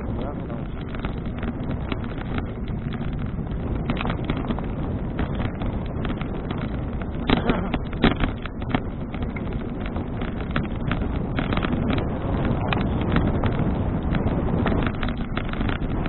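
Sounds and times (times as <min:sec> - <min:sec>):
small knocks and rattles: 0:00.0 - 0:16.0
wind buffeting microphone: 0:00.0 - 0:16.0.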